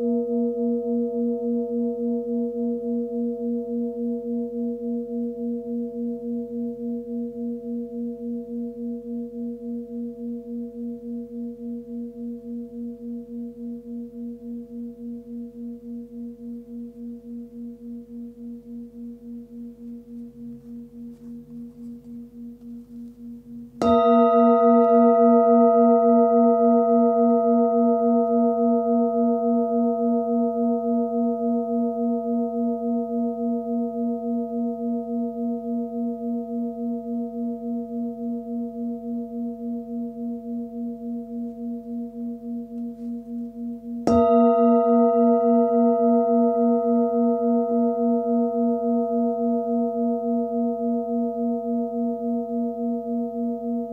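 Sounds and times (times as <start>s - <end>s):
singing bowl ringing: 0.0s - 53.9s.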